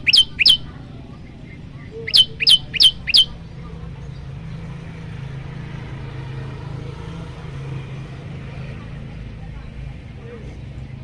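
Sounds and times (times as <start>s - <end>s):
faint outdoor noise: 0.0s - 11.0s
vehicle engine humming: 0.0s - 11.0s.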